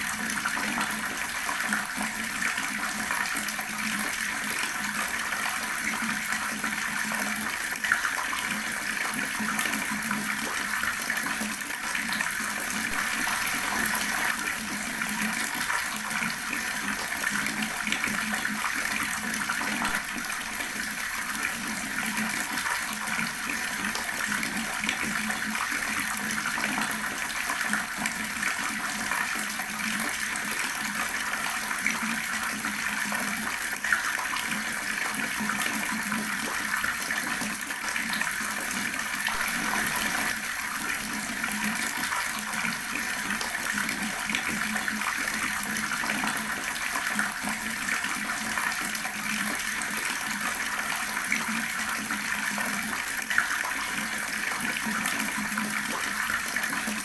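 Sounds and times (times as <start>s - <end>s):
water running from tap: 0.0s - 57.0s.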